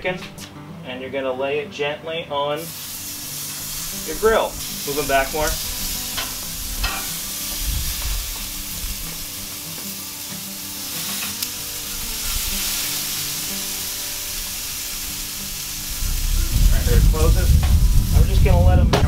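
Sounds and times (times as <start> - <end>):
chicken sizzling on a grill: 2.6 - 19.0.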